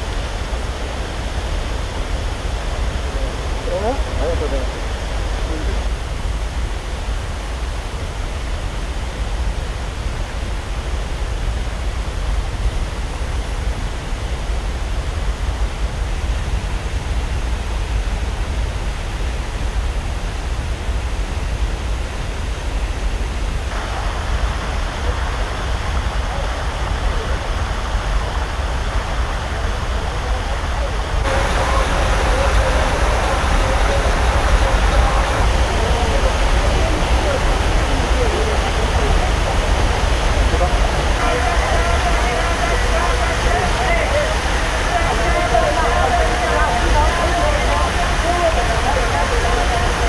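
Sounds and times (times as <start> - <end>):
stream and waterfall rushing: 0.0 - 50.0.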